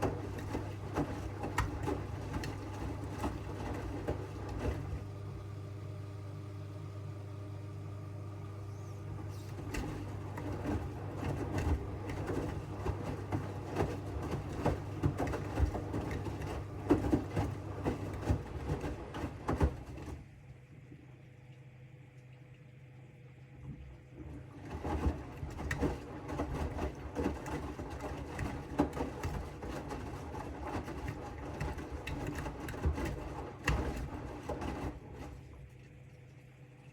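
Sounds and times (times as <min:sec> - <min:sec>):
washing machine motor hum: 0:00.0 - 0:36.9.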